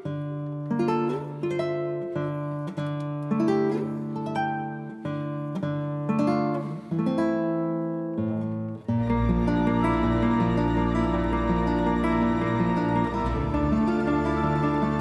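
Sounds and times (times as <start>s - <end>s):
acoustic guitar plucking chords: 0.0s - 15.0s.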